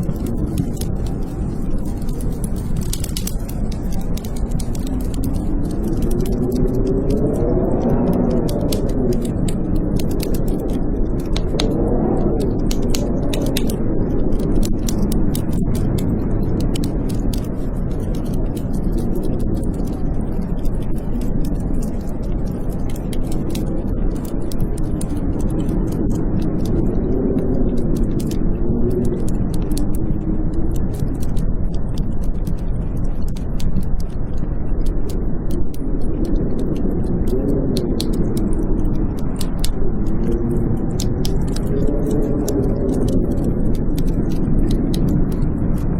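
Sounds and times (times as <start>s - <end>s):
blizzard wind howling: 0.0s - 45.9s
wood fire crackling: 0.0s - 45.9s.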